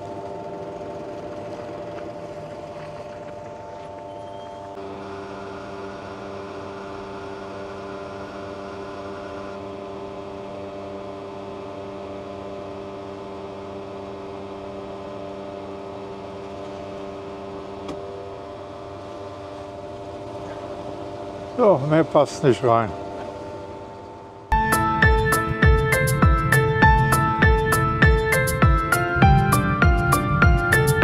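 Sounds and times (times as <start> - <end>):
fuel pump humming: 0.0 - 31.0.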